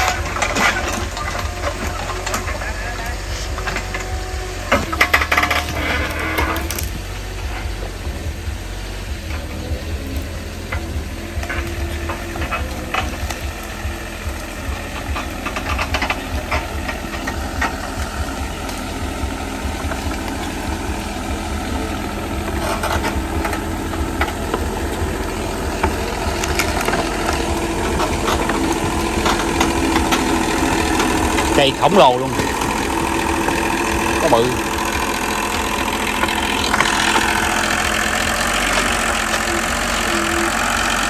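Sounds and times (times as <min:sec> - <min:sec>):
motor humming: 0:00.0 - 0:41.0.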